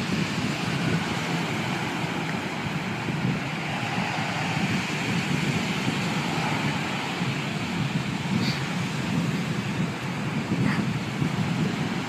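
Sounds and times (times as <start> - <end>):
surf breaking on sand: 0.0 - 12.0
wind buffeting microphone: 0.0 - 12.0.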